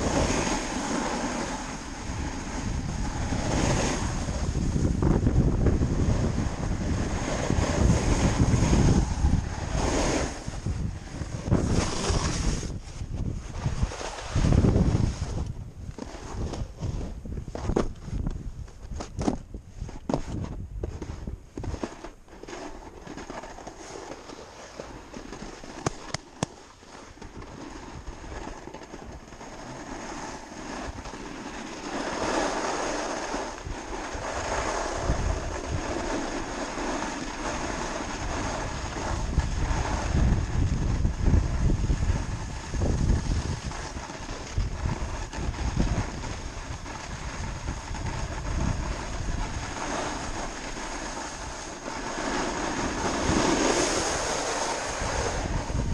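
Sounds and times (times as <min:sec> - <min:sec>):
wind buffeting microphone: 0:00.0 - 0:21.9, 0:31.8 - 0:55.9.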